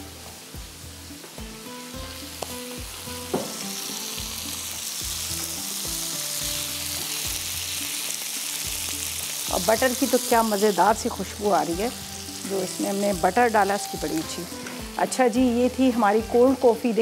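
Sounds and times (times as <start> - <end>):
food sizzling in butter: 0.0 - 17.0.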